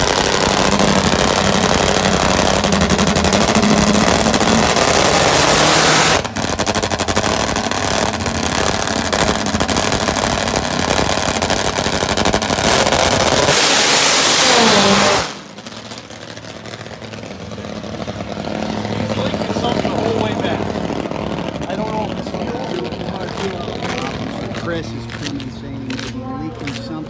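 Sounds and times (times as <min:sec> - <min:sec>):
drag motorcycle engine roaring: 0:00.0 - 0:27.0.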